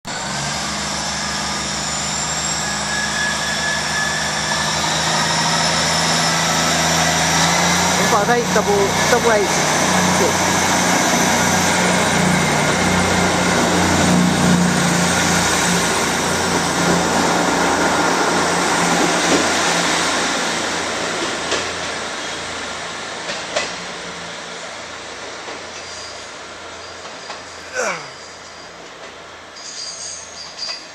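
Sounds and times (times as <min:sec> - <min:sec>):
diesel train engine hum: 0:00.0 - 0:30.9
wheels rumbling on rails: 0:00.1 - 0:30.9.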